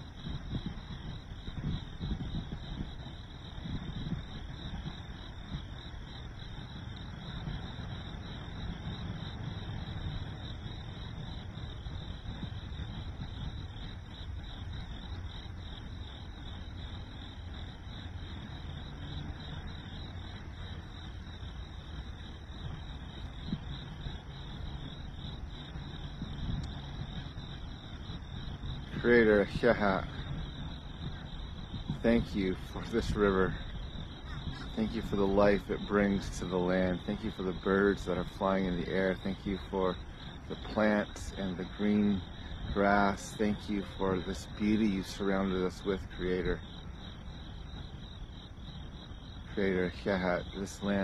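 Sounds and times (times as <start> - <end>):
crickets chirping: 0.0 - 51.0
low rumble: 0.0 - 51.0.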